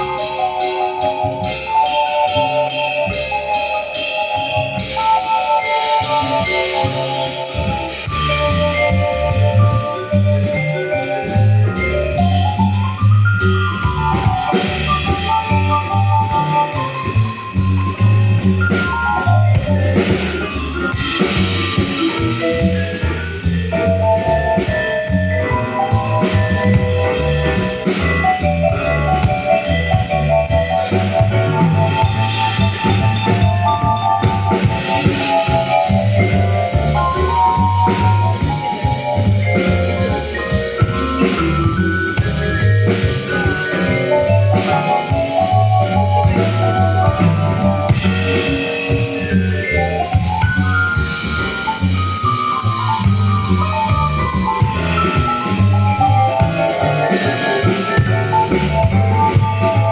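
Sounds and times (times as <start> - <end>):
bass line: 0.0 - 59.9
bright melody notes: 0.0 - 59.9
drum kit beat: 0.0 - 59.9.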